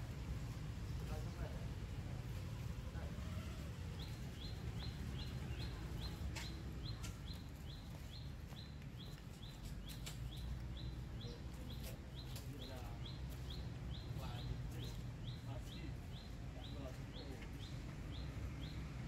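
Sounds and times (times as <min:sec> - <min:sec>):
bird chirping: 0:02.5 - 0:19.0.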